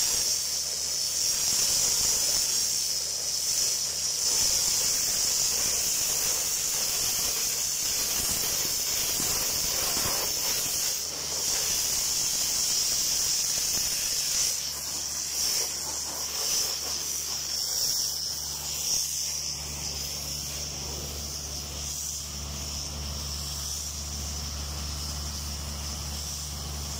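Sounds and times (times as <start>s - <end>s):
sandblasting nozzle hissing: 0.0s - 26.9s.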